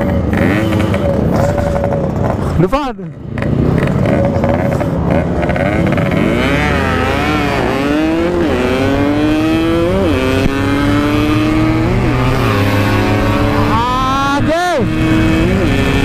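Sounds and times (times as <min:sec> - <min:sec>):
motorcycle accelerating through gears: 0:00.0 - 0:02.6, 0:03.2 - 0:16.0.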